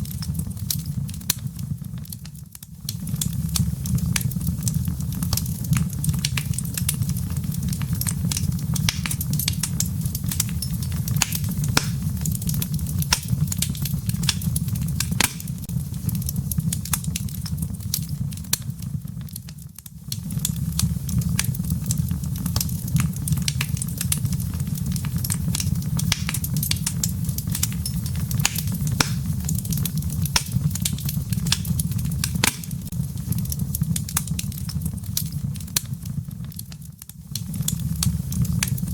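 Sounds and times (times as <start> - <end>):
fire flames rumbling: 0.0 - 38.9
wood crackling and popping: 0.0 - 38.9.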